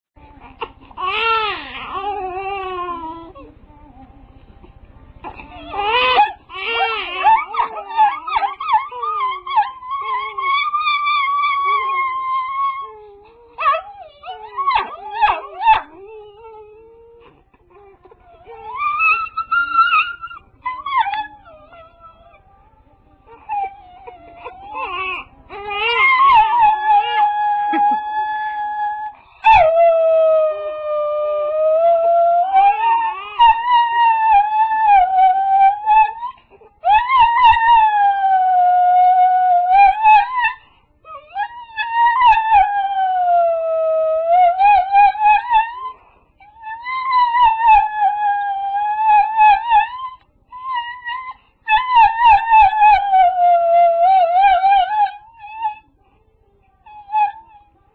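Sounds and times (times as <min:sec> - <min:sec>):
dog howling: 0:05.3 - 0:17.3, 0:18.0 - 0:22.6, 0:23.3 - 0:55.9, 0:56.9 - 0:57.8.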